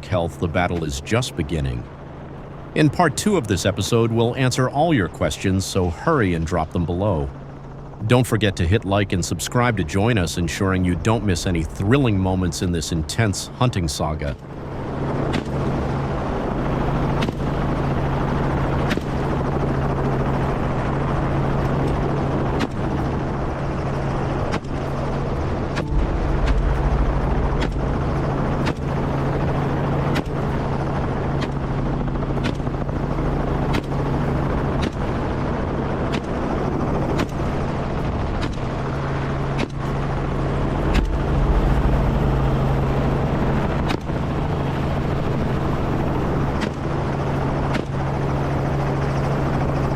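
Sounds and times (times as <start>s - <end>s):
helicopter drone: 0.0s - 49.9s.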